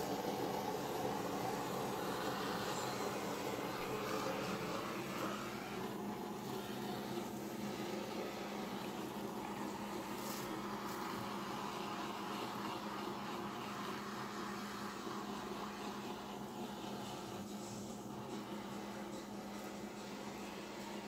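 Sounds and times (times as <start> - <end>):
heat gun fan whirring: 0.0 - 21.0.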